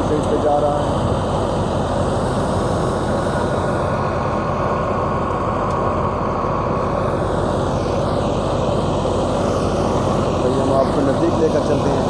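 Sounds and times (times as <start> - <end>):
thresher drum rumble: 0.0 - 12.0.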